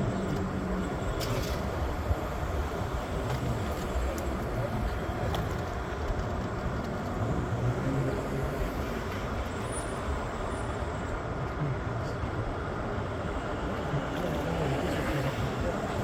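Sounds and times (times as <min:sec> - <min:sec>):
low rumble of vehicles: 0:00.0 - 0:16.0.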